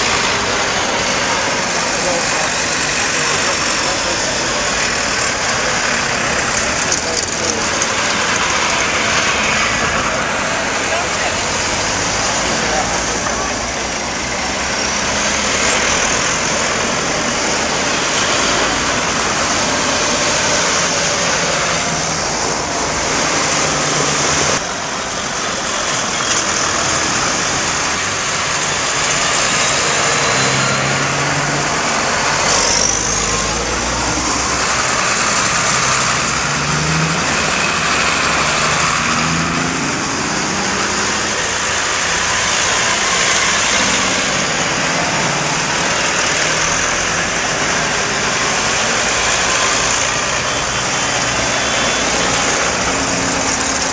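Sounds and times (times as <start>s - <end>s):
steady rush of noise: 0.0s - 53.9s
tractor engines passing: 0.0s - 53.9s.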